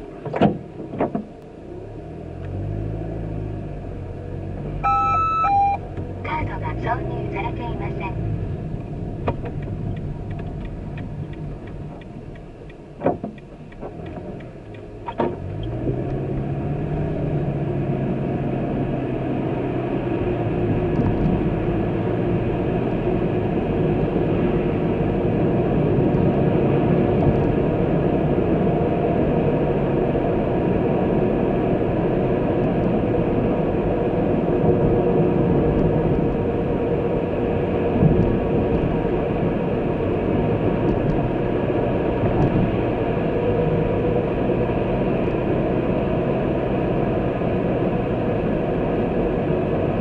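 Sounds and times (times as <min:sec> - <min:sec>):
road noise: 0:00.0 - 0:50.0
vehicle engine pulling away: 0:01.5 - 0:07.4, 0:14.0 - 0:50.0.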